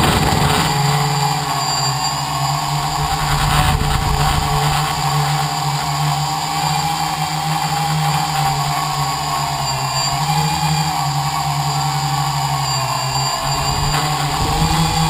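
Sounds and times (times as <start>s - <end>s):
drone motors and propellers humming: 0.0s - 15.0s.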